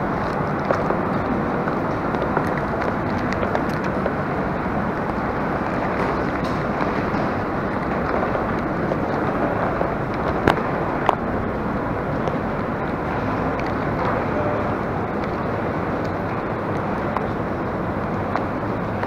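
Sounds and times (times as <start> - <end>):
walking rumble: 0.0 - 19.0.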